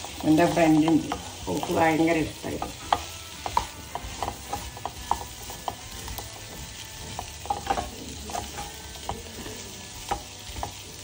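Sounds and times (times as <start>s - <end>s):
potatoes sizzling in oil: 0.0s - 11.0s
wooden spatula scraping a pan: 0.0s - 11.0s.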